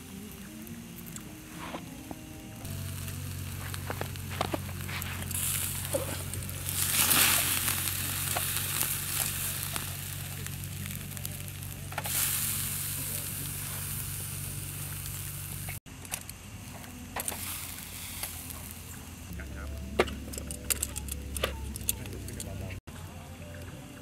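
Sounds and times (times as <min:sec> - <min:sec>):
steak sizzling on grill: 0:00.0 - 0:15.8, 0:17.2 - 0:22.7.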